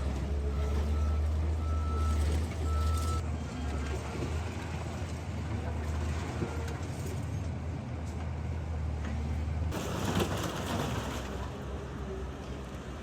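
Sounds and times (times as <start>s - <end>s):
bulldozer diesel engine running: 0.0s - 12.8s.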